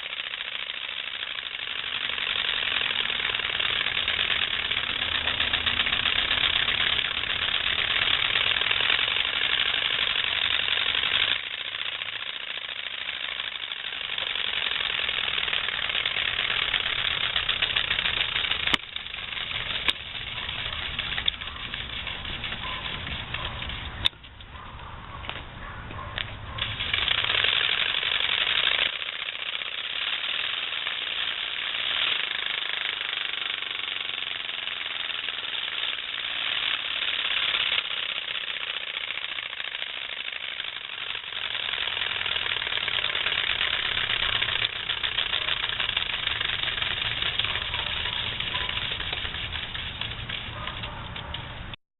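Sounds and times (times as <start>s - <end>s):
card rattling in bike spokes: 0.0s - 24.6s, 26.2s - 51.8s.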